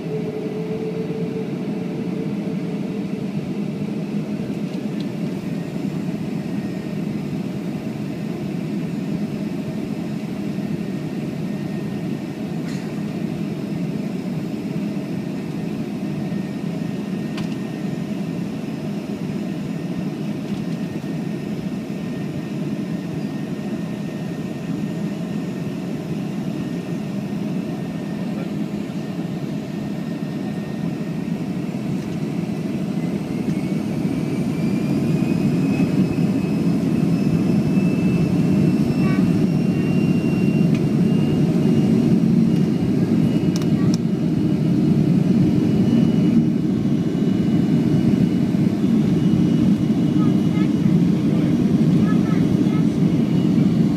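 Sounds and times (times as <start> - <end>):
jet engines rumbling and whining: 0.0 - 53.9.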